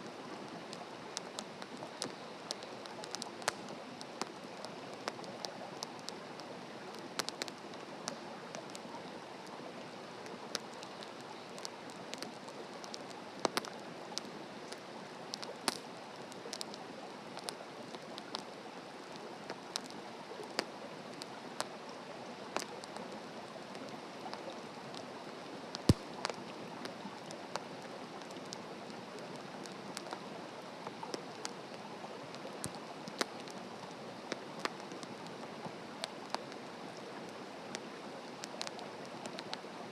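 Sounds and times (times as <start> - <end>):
wood fire crackling and popping: 0.0 - 9.2, 10.2 - 21.8, 22.5 - 39.7.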